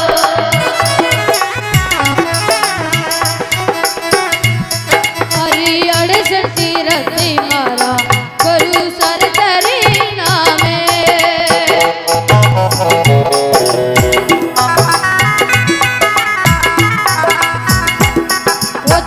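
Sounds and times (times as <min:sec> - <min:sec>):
hand drum fast rhythm: 0:00.0 - 0:19.0
ornamented melodic lead: 0:00.0 - 0:19.0.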